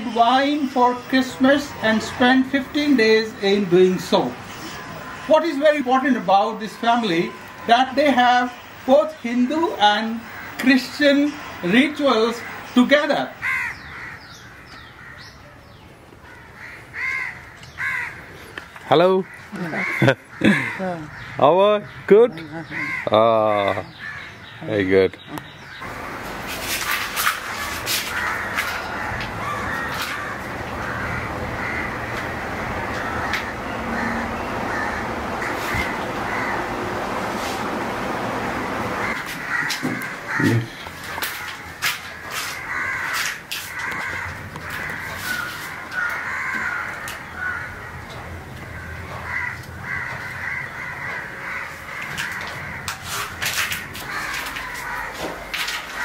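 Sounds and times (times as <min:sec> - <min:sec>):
crows cawing: 0:00.0 - 0:15.5, 0:16.2 - 0:24.6, 0:26.7 - 0:37.3, 0:38.9 - 0:56.0.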